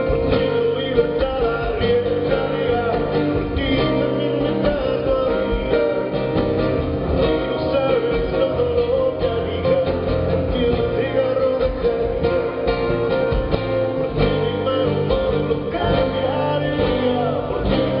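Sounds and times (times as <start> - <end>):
guitar: 0.0 - 18.0
live band playing: 0.0 - 18.0
person singing: 0.0 - 18.0.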